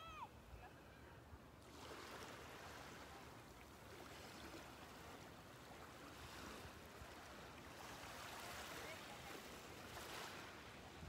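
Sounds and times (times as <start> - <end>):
small waves washing onto beach: 1.0 - 11.0.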